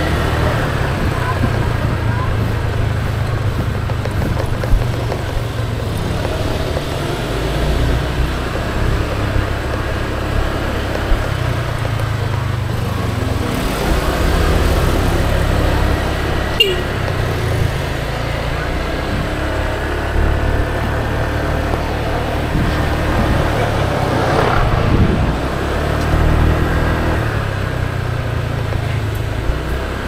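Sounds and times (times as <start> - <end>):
road and wind noise: 0.0 - 30.0
scooter engine running: 0.0 - 30.0.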